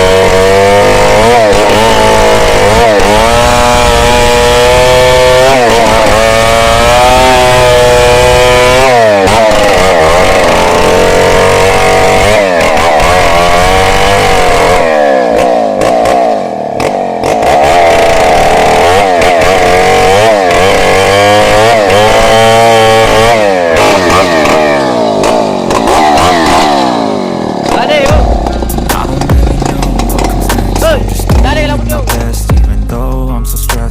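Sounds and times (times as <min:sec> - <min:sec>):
chainsaw cutting log: 0:00.0 - 0:32.8.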